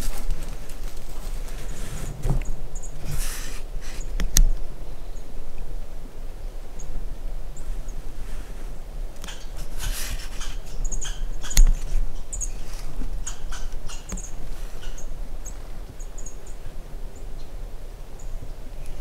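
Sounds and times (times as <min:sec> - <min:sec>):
leaves rustling: 0:00.0 - 0:19.0.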